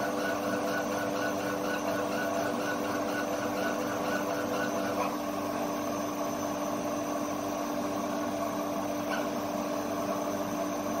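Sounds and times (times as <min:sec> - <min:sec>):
laser engraver humming: 0:00.0 - 0:11.0.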